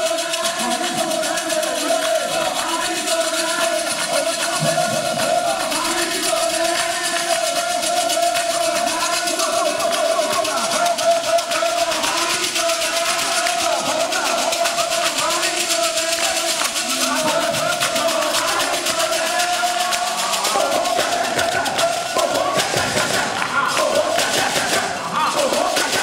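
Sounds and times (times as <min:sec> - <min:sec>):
group of voices singing: 0:00.0 - 0:26.0
hand percussion beat: 0:00.0 - 0:26.0.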